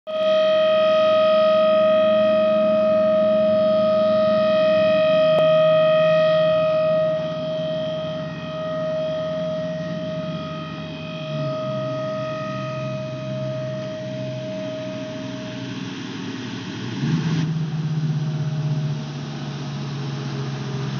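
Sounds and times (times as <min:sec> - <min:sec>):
low drone: 0:00.1 - 0:20.9
siren steady tone: 0:00.1 - 0:20.9.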